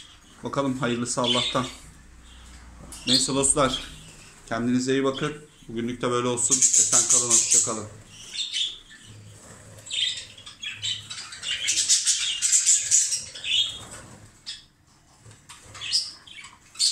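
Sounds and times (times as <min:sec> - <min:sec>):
budgerigars chirping: 0:00.0 - 0:14.7, 0:15.5 - 0:16.9.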